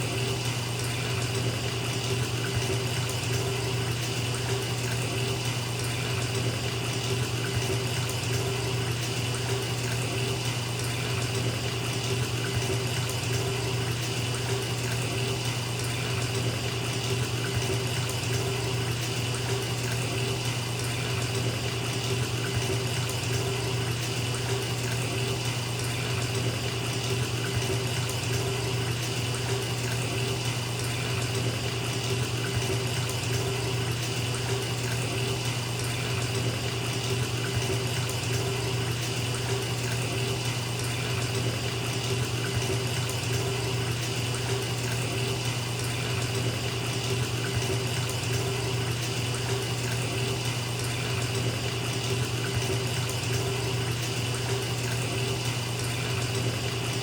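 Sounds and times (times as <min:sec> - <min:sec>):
tap water rushing into tub: 0:00.0 - 0:57.0.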